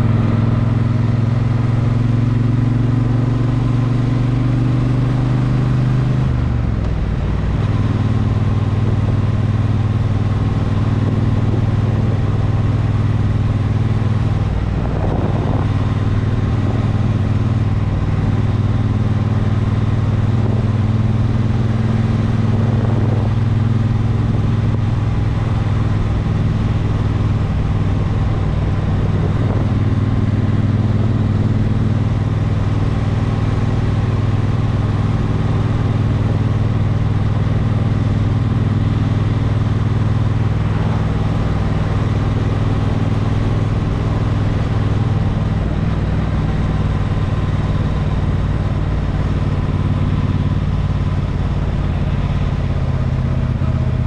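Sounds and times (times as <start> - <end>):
driving noise: 0.0 - 54.0
vehicle engine droning: 0.0 - 54.0.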